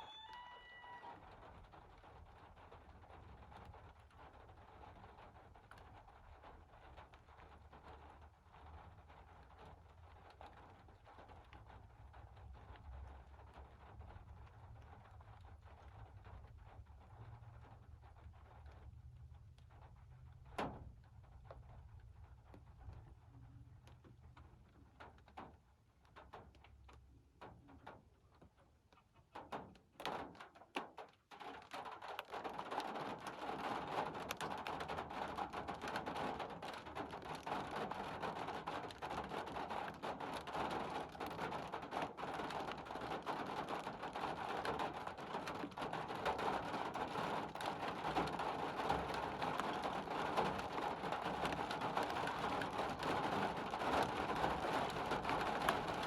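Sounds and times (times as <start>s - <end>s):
rain striking a surface: 0.0s - 28.2s, 29.3s - 56.0s.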